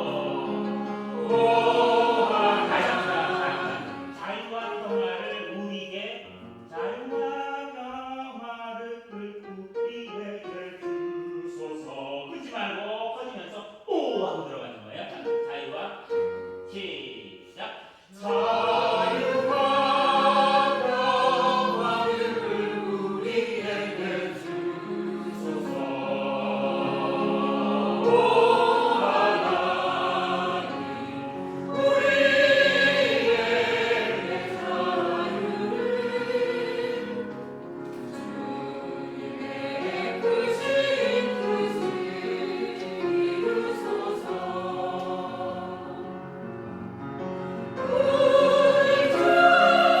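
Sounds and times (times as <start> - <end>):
church choir singing: 0.0 - 13.0, 14.9 - 50.0.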